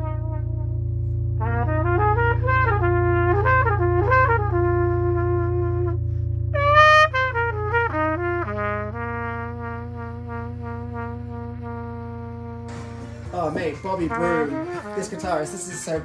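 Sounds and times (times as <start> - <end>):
low drone: 0.0 - 14.8
brass instrument slow melody: 0.0 - 16.0.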